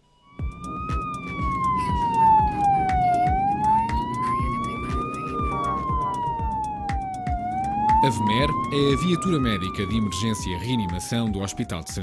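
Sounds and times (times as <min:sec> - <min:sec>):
emergency siren wailing: 0:00.0 - 0:12.0
low thumping beat: 0:00.4 - 0:12.0.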